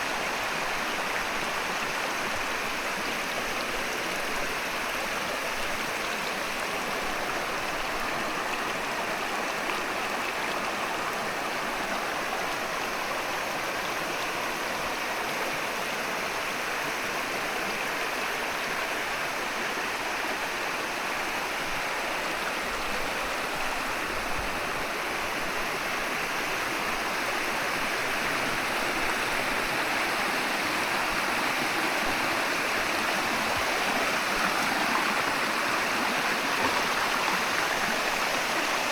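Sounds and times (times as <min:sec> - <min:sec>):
rushing stream water: 0:00.0 - 0:38.9.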